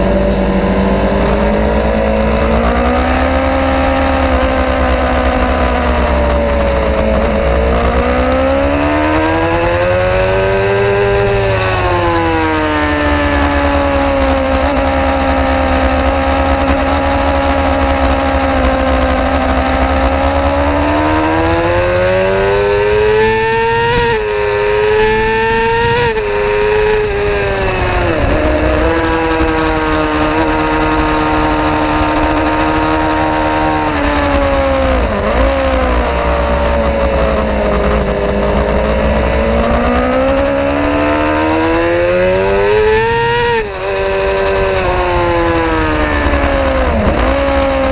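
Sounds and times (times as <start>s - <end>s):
motorcycle engine at full throttle: 0.0s - 47.9s.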